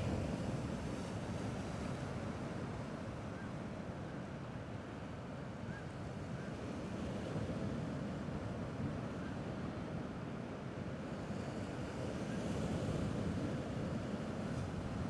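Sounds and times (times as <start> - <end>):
gentle sea waves: 0.0 - 15.0.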